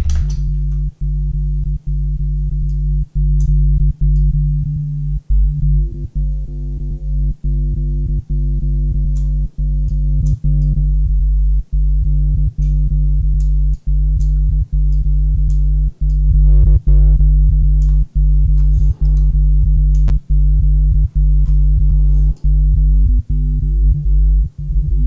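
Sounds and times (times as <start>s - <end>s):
growly synthesized bass notes: 0.0s - 25.0s.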